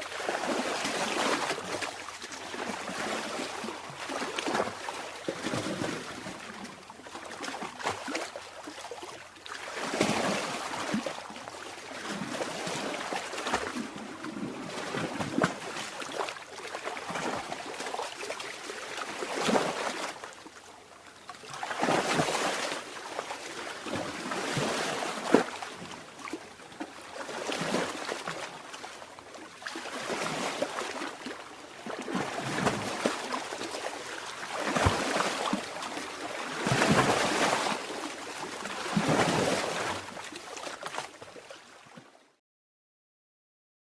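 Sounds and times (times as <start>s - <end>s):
sea water lapping and splashing: 0.0s - 42.2s.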